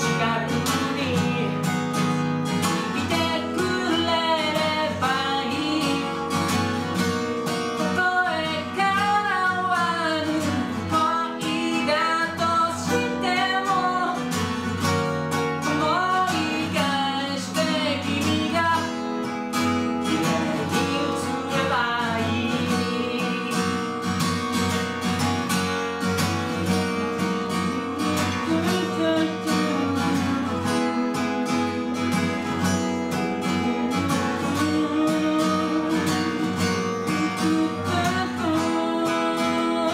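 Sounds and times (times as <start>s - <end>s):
man singing: 0.0s - 14.8s, 15.6s - 24.3s, 26.2s - 39.9s
acoustic guitar playing: 0.0s - 39.9s.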